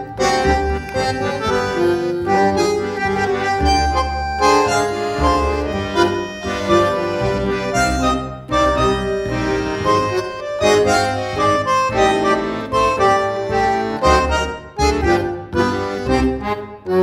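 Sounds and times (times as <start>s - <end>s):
bass line: 0.0s - 17.0s
held melody line: 0.0s - 17.0s.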